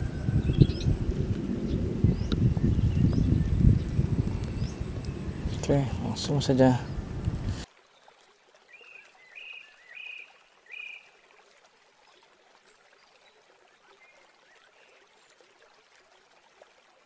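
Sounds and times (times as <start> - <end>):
faint outdoor hiss: 0.0 - 15.7.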